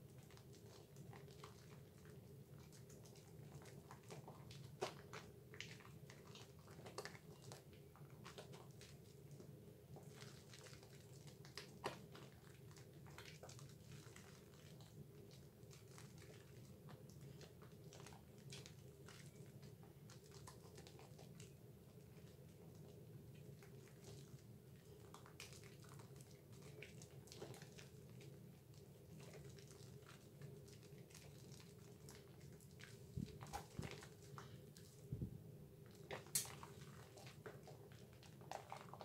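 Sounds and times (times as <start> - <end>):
soapy hands squishing foam: 0.0 - 39.0.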